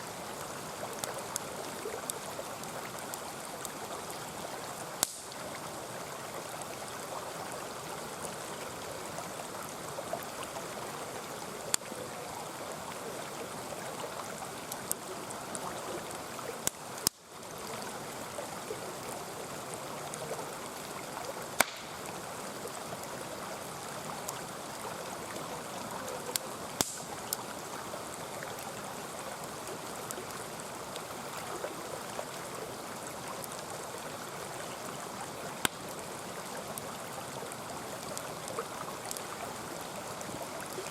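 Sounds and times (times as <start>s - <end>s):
campfire crackling and popping: 0.0s - 40.9s
mountain stream running: 0.0s - 40.9s.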